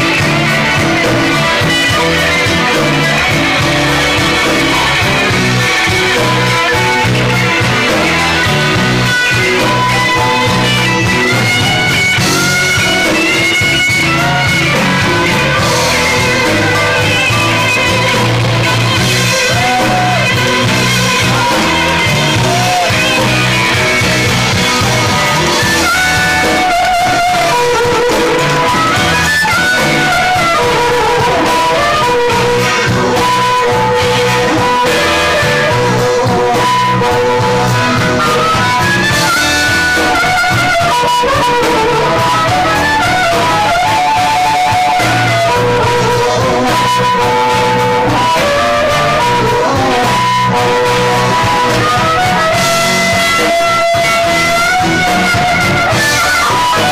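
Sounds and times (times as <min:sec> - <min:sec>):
blues band playing: 0:00.0 - 0:56.9
harmonica bending notes: 0:00.0 - 0:56.9.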